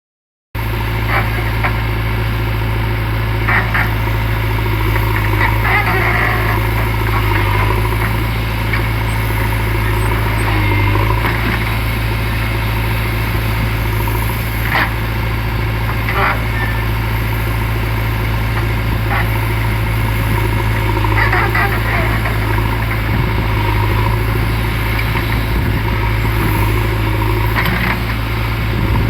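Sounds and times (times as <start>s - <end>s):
diesel engine droning: 0.6s - 29.0s.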